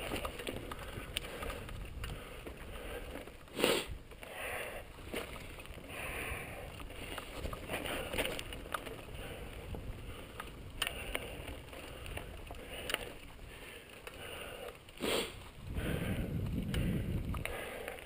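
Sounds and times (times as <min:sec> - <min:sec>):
bike clicking and knocking: 0:00.0 - 0:03.4, 0:04.0 - 0:14.9, 0:15.6 - 0:18.0
bike tyres rumbling on gravel: 0:00.0 - 0:18.0.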